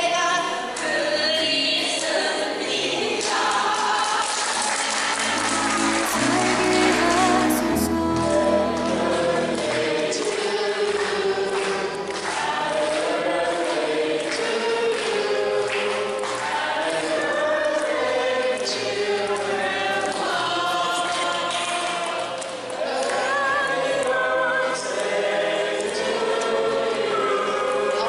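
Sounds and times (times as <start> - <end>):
group of people singing: 0.0 - 28.0.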